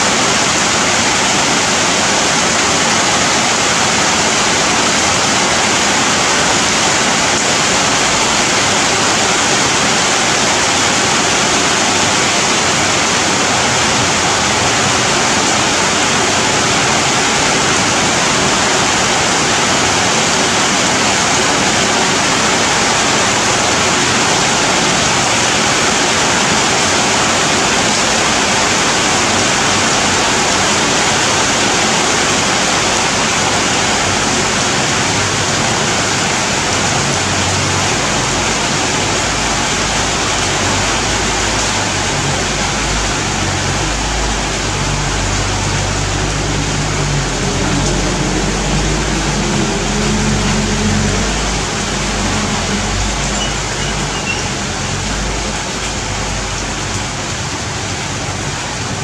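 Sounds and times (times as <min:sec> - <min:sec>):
dense rain on leaves: 0:00.0 - 0:59.0.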